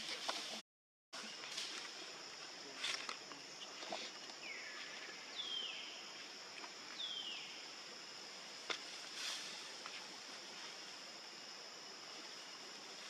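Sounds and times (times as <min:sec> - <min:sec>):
high insect buzz: 0:01.2 - 0:13.0.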